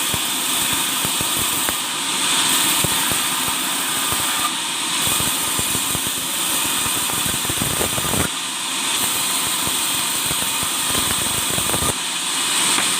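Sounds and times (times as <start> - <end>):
power tool working wood: 0.0 - 12.9.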